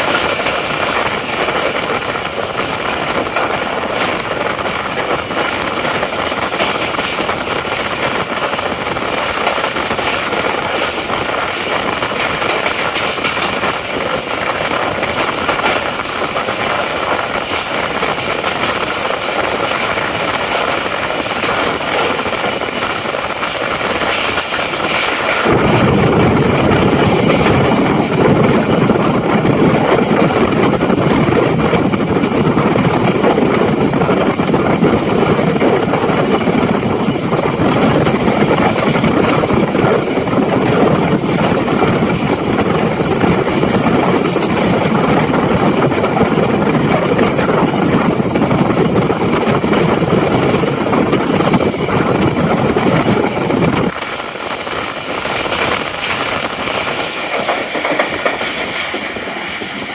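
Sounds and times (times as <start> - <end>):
passenger train rushing roar: 0.0 - 59.9.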